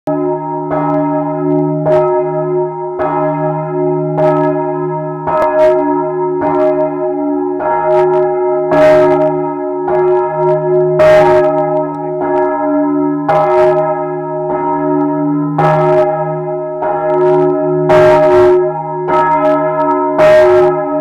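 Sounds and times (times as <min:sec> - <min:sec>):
large church bell ringing: 0:00.1 - 0:21.0.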